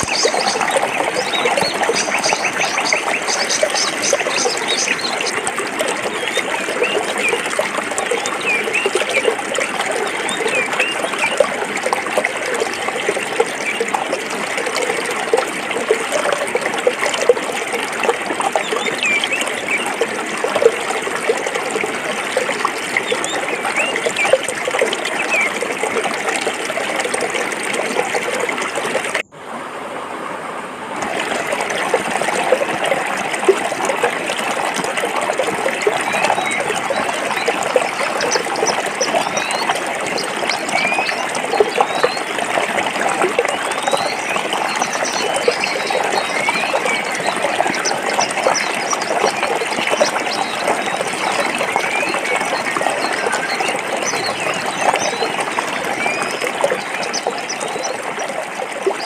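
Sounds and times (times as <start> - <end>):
stream trickling over rocks: 0.0 - 59.0.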